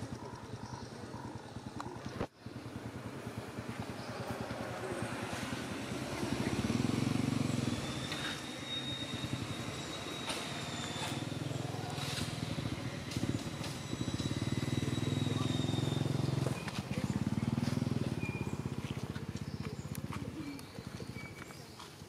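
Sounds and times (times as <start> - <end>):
engine running: 0.0 - 21.6.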